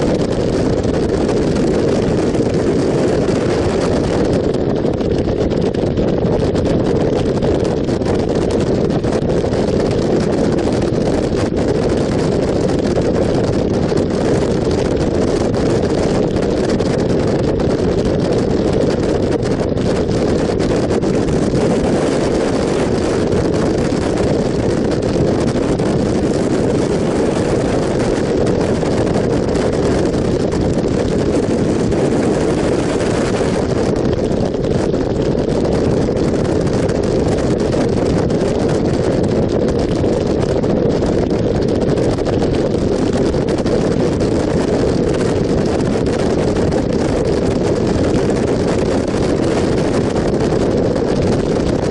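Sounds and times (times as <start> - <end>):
motorcycle engine and tyre roar: 0.0 - 41.8
wind over microphone: 0.0 - 51.9.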